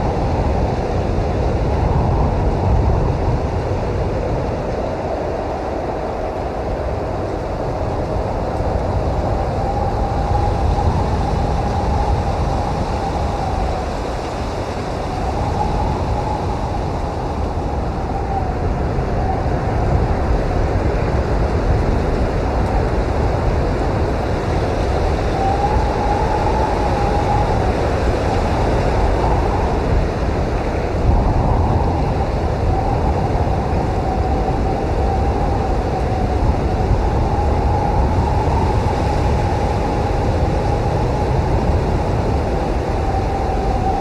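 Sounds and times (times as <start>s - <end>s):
faint wind whistling: 0.0s - 44.0s
strong wind rushing: 0.0s - 44.0s.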